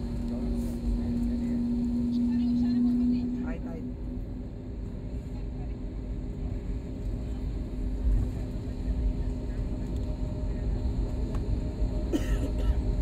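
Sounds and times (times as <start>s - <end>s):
constant hum: 0.0s - 13.0s
jet engines rumbling: 0.0s - 13.0s.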